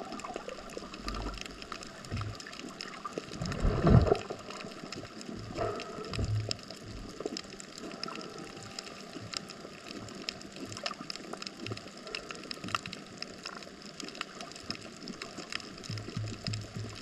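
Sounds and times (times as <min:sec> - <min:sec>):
dense irregular clicks and crackles: 0:00.0 - 0:17.0.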